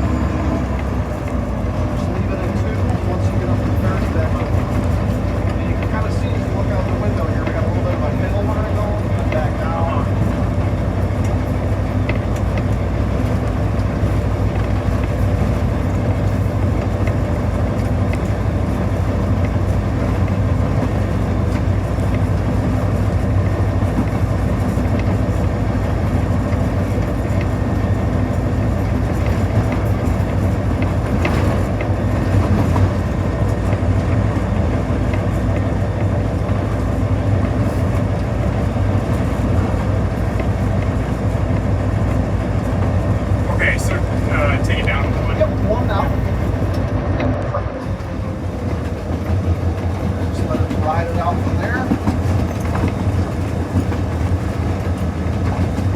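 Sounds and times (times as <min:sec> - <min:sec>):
diesel locomotive engine running: 0:00.0 - 0:55.9
train rumble: 0:00.0 - 0:55.9.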